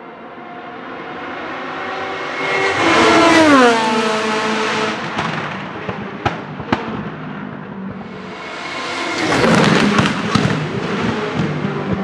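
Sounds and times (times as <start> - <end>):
race car engine passing: 0.3 - 6.2, 7.3 - 12.0.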